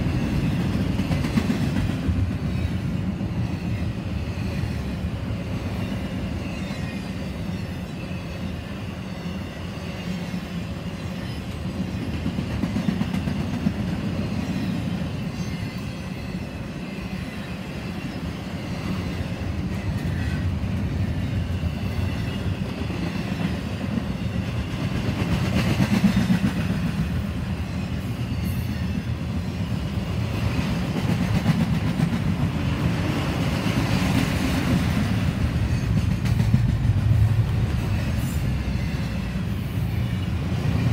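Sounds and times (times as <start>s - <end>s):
freight train wheels rumbling on track: 0.0s - 40.9s.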